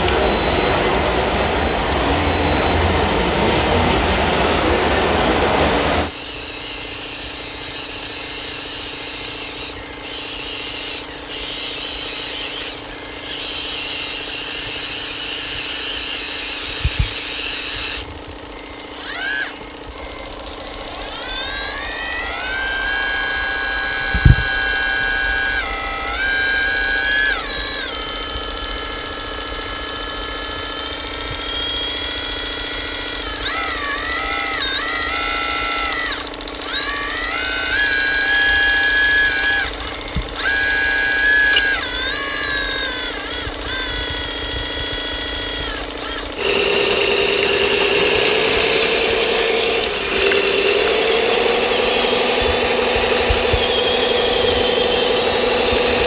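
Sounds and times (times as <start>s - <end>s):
model excavator motor whine: 0.0s - 56.0s
toy dump truck motor: 0.0s - 56.0s
sharp clicks: 6.8s - 56.0s.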